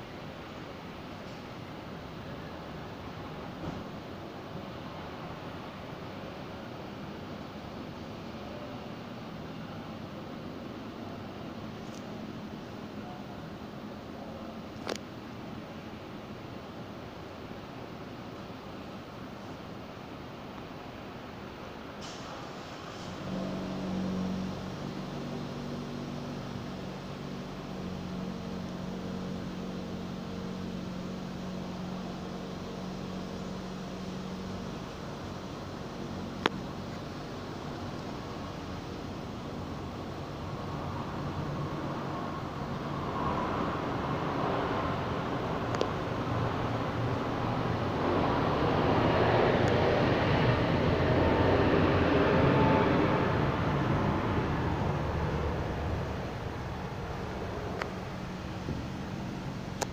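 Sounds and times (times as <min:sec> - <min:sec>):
jet engines at takeoff power: 0:00.0 - 0:59.9.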